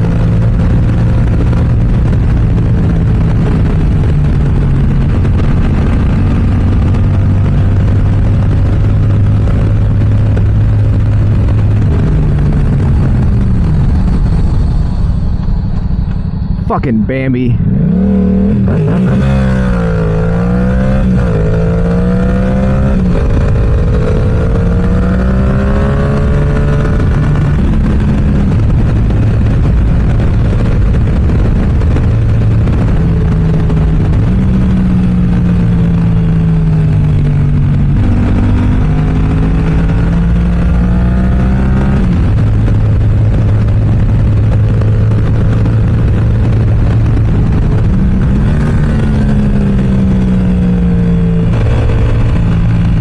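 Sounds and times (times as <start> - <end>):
motorcycle engine revving: 0.0 - 53.0
wind rush on microphone: 0.0 - 53.0.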